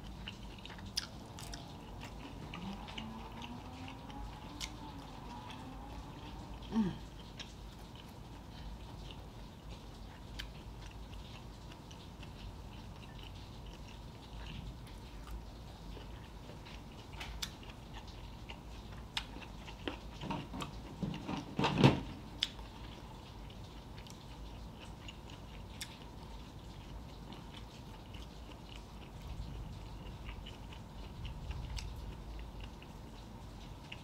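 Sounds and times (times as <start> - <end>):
close chewing with wet mouth clicks: 0.0 - 20.9, 22.4 - 34.0.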